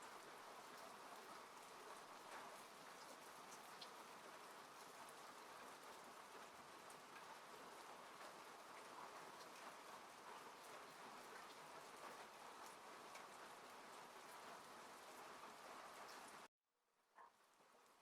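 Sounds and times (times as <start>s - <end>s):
rain on a car roof: 0.0s - 16.5s.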